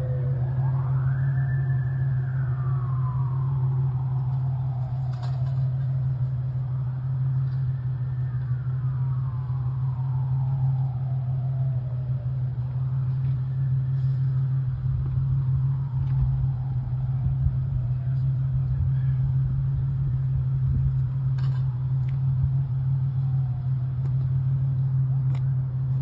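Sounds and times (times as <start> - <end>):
vehicles passing with whine: 0.0 - 26.0.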